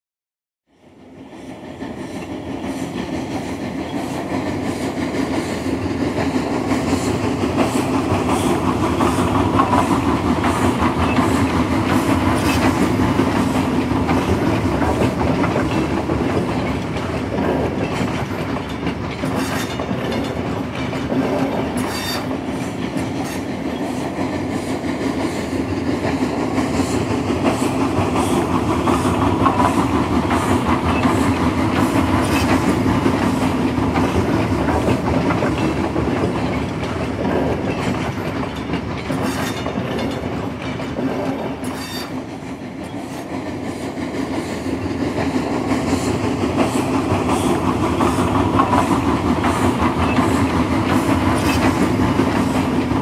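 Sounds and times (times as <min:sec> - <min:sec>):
train rumble with rail clatter: 0:00.7 - 0:53.0.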